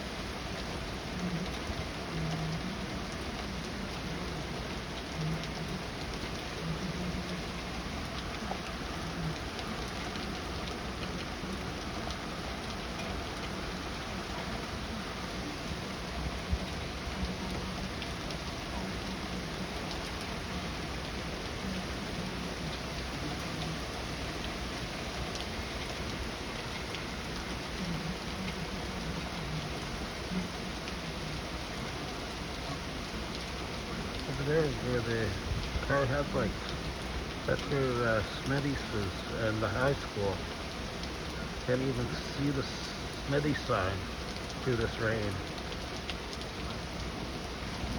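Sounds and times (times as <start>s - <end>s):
heavy rain falling: 0.0s - 47.9s
raindrops ticking: 0.0s - 47.9s.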